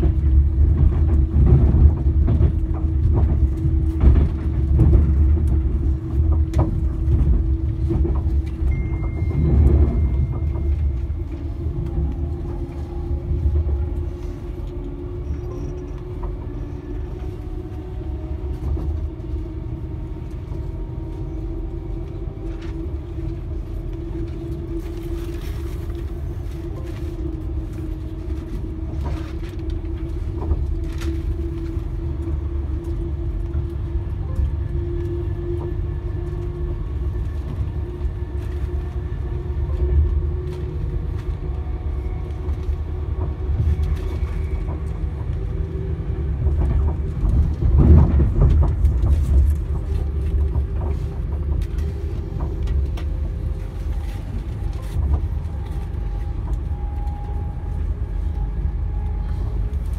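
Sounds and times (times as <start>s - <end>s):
constant hum: 0.0s - 59.9s
electric train rumbling: 0.0s - 59.9s.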